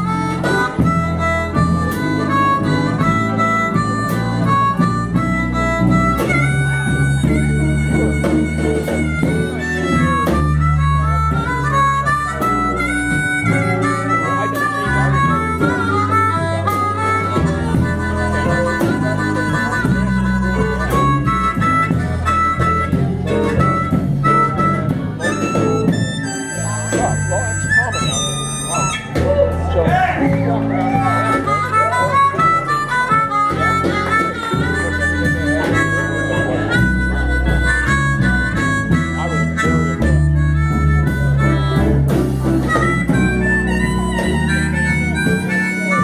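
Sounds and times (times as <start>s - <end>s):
bass and guitar backing: 0.0s - 46.0s
harmonica melody: 0.0s - 46.0s.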